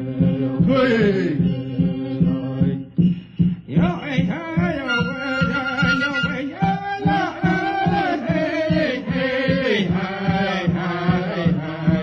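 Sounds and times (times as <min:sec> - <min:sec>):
chanted vocals over a beat: 0:00.0 - 0:12.0.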